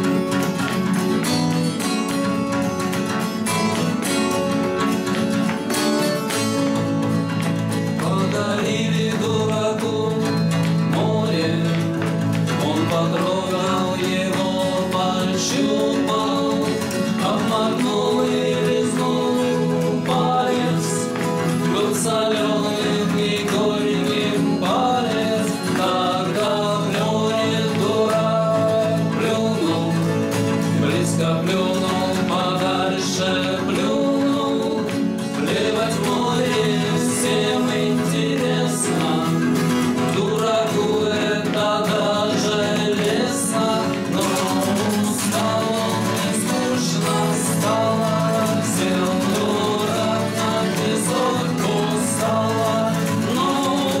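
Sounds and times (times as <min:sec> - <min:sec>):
strummed acoustic guitars: 0:00.0 - 0:54.0
man singing: 0:07.3 - 0:54.0.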